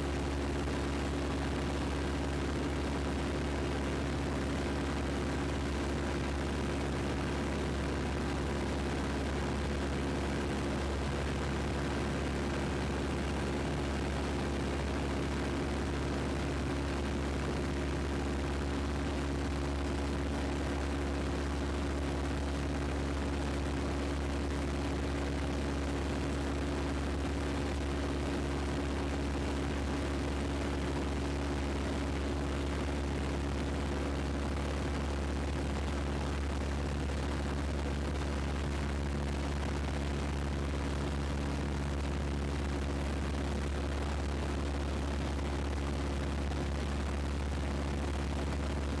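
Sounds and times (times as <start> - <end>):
propeller plane engine drone: 0.0 - 49.0.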